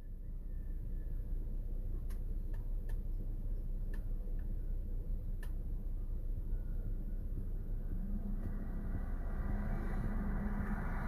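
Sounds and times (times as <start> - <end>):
vehicle rumble from inside cabin: 0.0 - 11.0.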